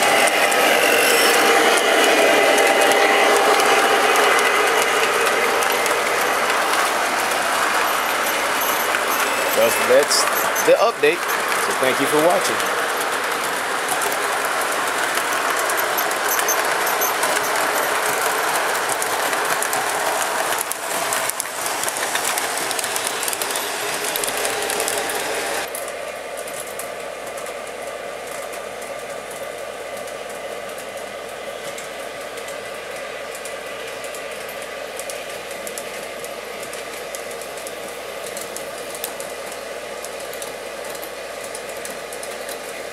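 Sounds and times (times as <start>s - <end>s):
model trains rattling on track: 0.0s - 42.9s.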